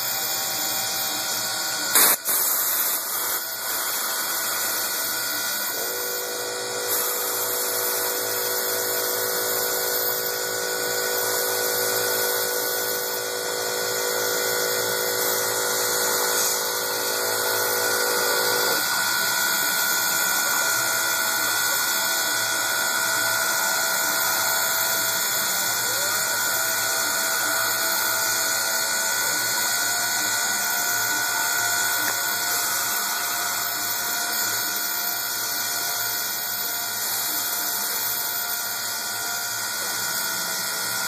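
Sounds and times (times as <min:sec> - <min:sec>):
milling machine cutting plastic: 0:00.0 - 0:41.0.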